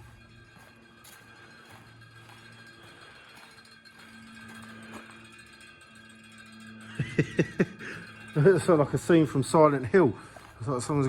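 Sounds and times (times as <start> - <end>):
alarm-like low tone drone: 0.0 - 11.0.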